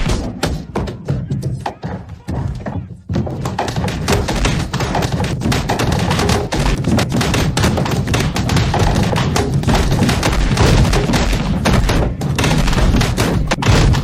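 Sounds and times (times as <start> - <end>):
body tumbling down stairs: 0.0 - 14.0.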